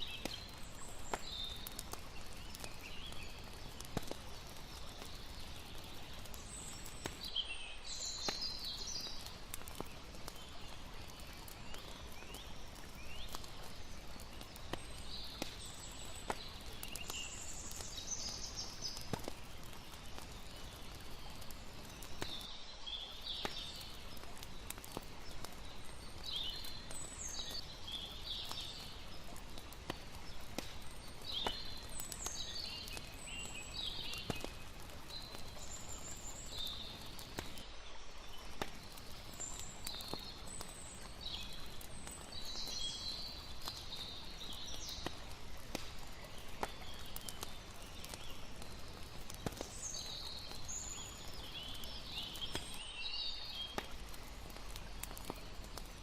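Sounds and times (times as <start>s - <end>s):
birds chirping: 0.0s - 56.0s
campfire crackling: 0.0s - 56.0s.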